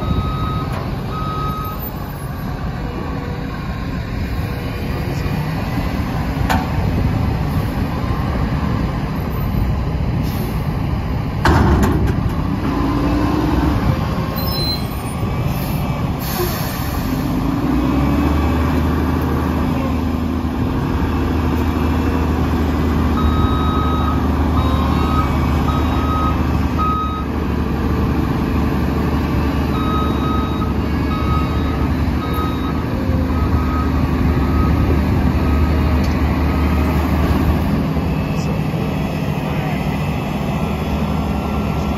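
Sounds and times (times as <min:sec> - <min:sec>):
heavy diesel engines running: 0:00.0 - 0:41.9
deep engine drone: 0:02.4 - 0:41.9.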